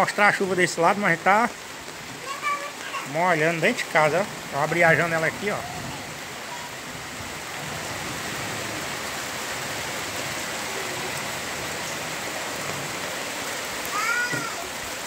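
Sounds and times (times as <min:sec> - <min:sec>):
rain pouring on foliage: 0:00.0 - 0:15.0.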